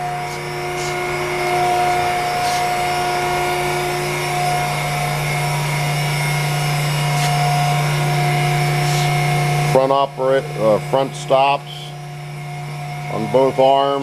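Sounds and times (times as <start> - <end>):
power shear motor humming: 0.0 - 14.0
whining tones: 0.0 - 14.0.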